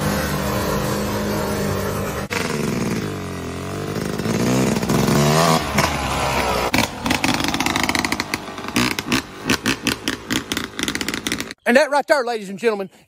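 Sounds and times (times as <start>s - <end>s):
lawnmower engine revving: 0.0s - 11.6s.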